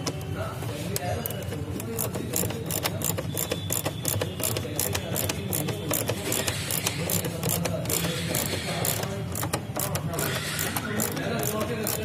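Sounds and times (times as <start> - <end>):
ratchet driver clicking: 1.2 - 12.0.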